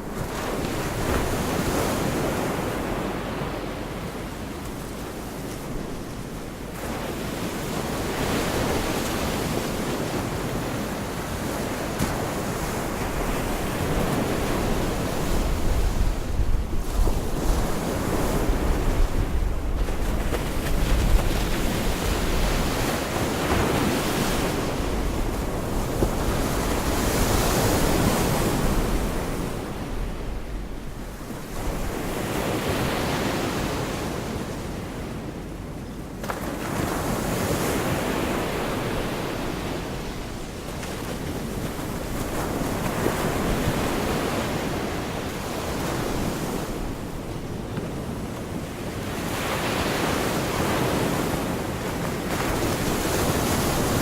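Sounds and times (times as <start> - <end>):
surf breaking on a beach: 0.0 - 35.4, 36.1 - 54.0
wind rumbling on microphone: 0.0 - 35.5, 36.3 - 54.0.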